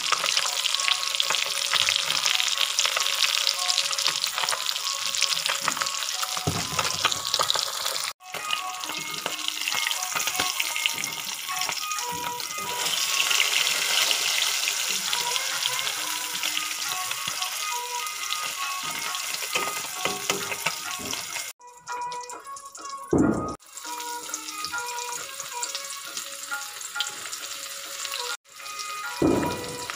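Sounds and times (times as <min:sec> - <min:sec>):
fish sizzling in hot oil: 0:00.0 - 0:29.9.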